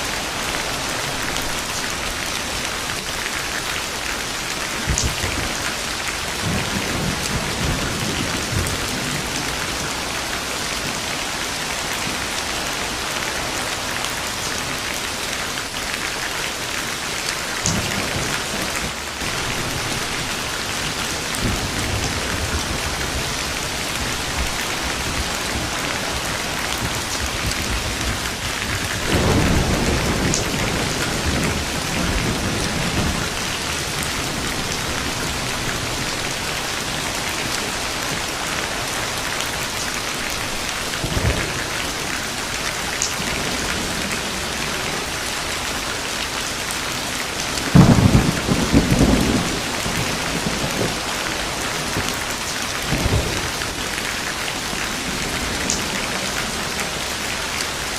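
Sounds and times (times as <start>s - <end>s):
heavy rain: 0.0s - 57.9s
thunder rumbling: 4.6s - 14.4s, 17.5s - 45.1s, 47.4s - 56.9s.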